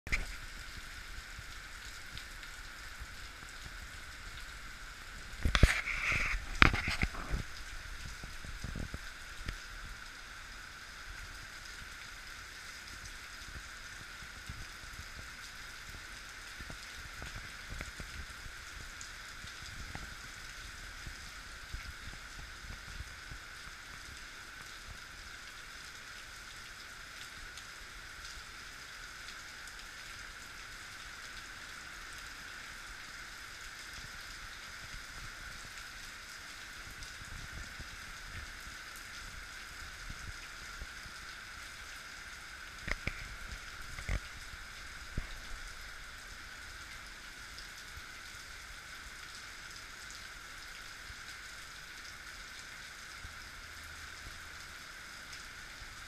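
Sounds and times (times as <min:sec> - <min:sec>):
heavy rain hissing: 0:00.1 - 0:56.0.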